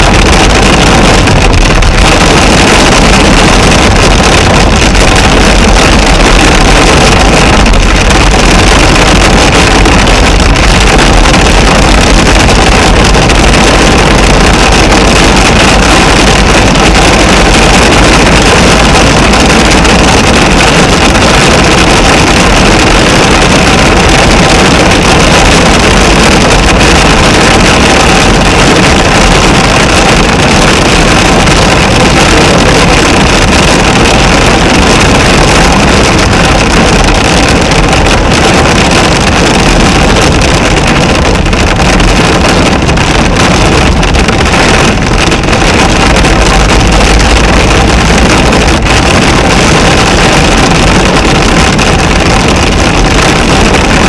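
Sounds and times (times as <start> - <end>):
torrential rain on car roof: 0.0 - 54.0.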